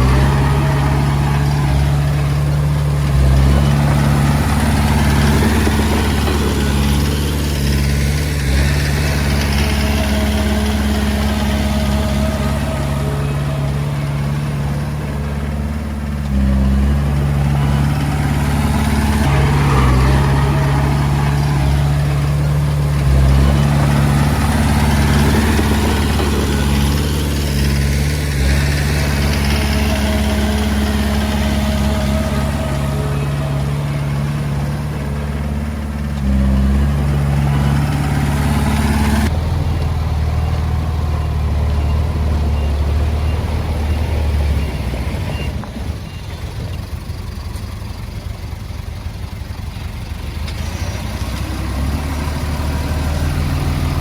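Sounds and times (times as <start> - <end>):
bulldozer diesel engine running: 0.0 - 54.0
noisy clatter: 0.0 - 54.0.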